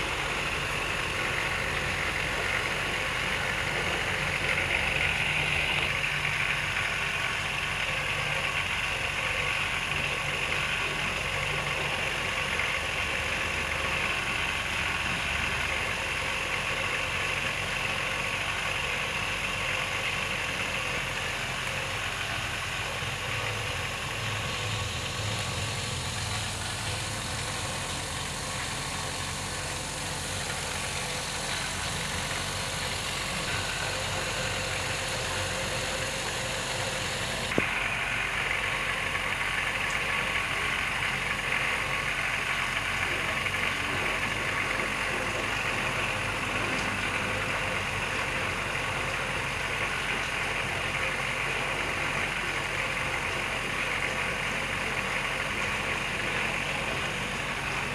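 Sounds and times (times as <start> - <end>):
machine-like drone with hiss: 0.0 - 57.9.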